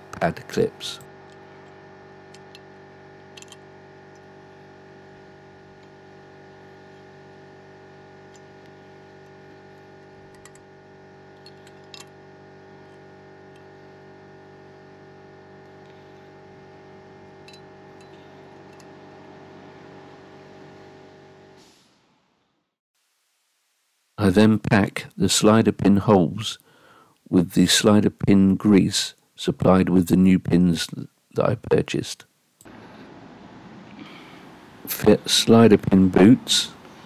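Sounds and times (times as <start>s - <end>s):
machine hum: 0.0s - 28.8s, 29.4s - 37.0s.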